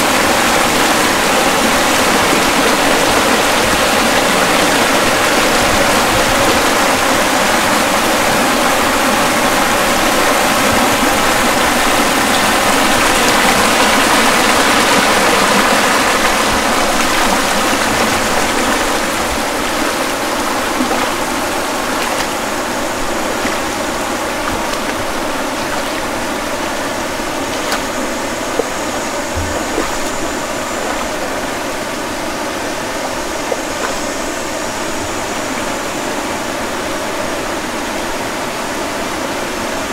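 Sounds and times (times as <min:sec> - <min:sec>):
rushing stream water: 0:00.0 - 0:39.9.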